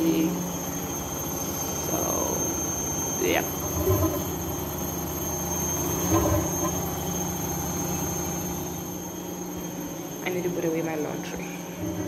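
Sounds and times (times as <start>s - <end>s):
washing machine hum: 0.0s - 12.0s.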